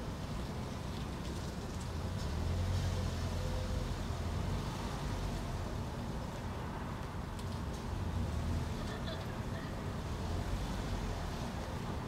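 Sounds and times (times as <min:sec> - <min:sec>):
low rumble of city traffic: 0:00.0 - 0:12.0.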